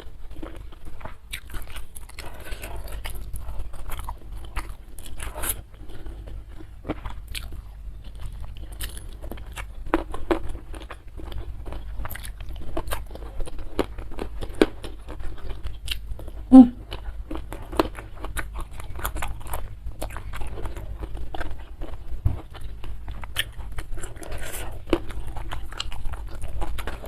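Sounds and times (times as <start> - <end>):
chewing crunchy food: 0.0 - 27.0.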